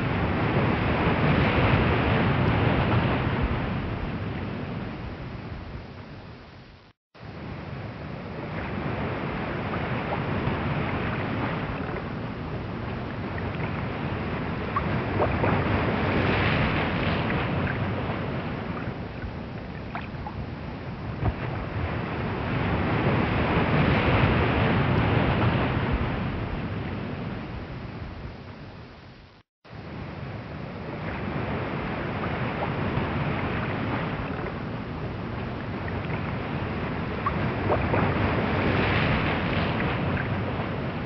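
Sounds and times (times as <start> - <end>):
waves breaking on shore: 0.0 - 6.4, 7.2 - 28.3, 29.7 - 41.0.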